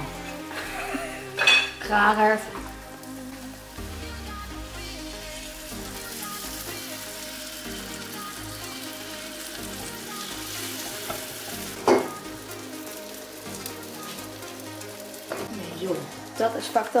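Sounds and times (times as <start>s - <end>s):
batter sizzling in pans: 0.0s - 17.0s.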